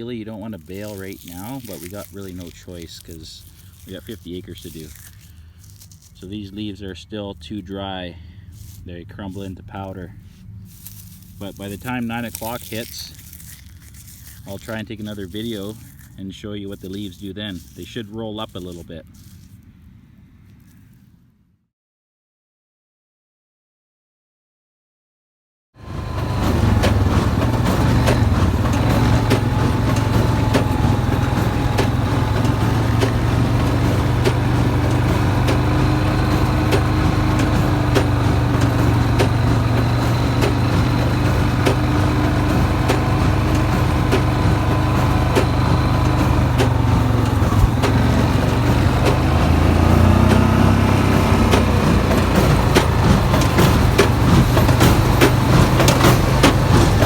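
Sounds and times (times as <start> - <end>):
hay baler clicking: 0.0 - 19.4, 25.8 - 57.0
tractor engine under load: 0.0 - 19.6, 25.8 - 57.0.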